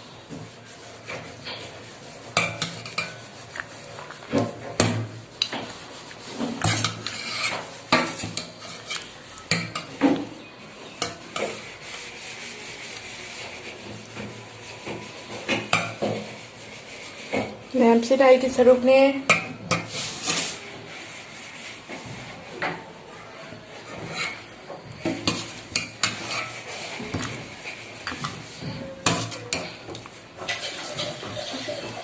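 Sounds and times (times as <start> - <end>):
metal utensil scraping a pot: 0.6 - 18.0, 19.3 - 22.8, 23.8 - 32.0.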